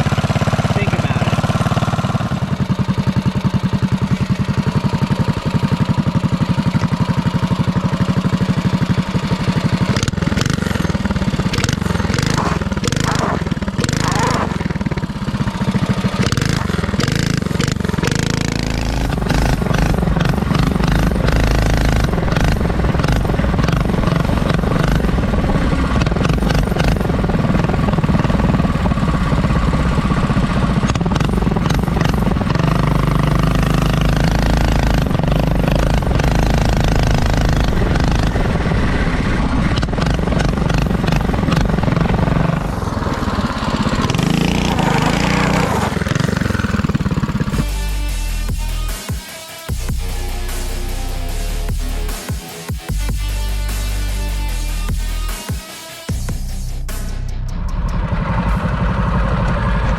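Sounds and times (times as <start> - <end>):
small engine running rough: 0.0 - 59.9.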